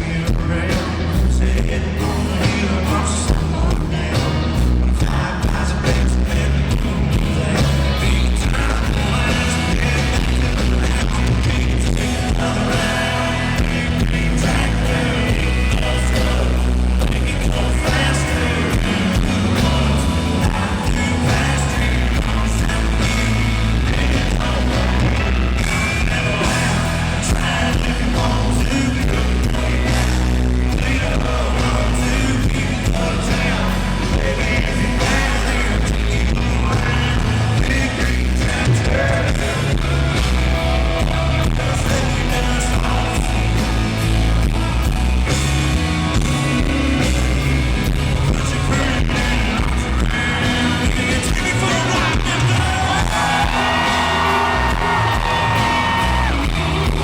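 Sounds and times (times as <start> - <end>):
country-rock band playing: 0.0 - 57.0
man singing: 0.0 - 57.0.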